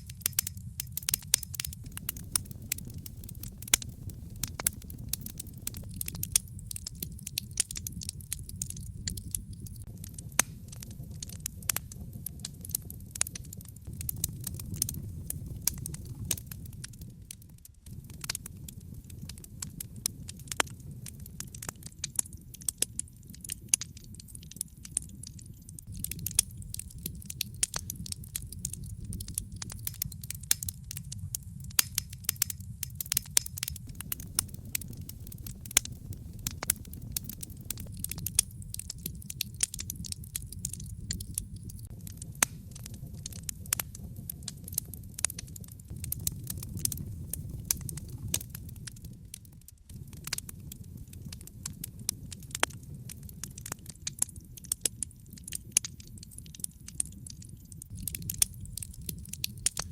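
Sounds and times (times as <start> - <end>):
fire flames rumbling: 0.0 - 59.9
wood fire crackling and popping: 0.0 - 59.9.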